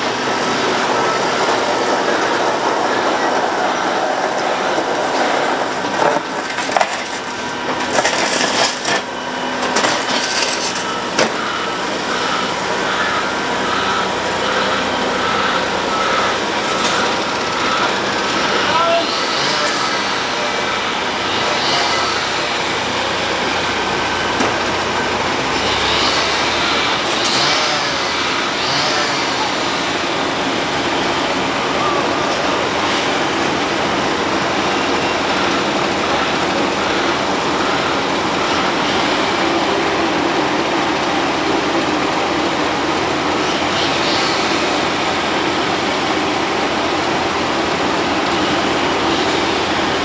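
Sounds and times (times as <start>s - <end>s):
road milling machine running: 0.0s - 50.0s.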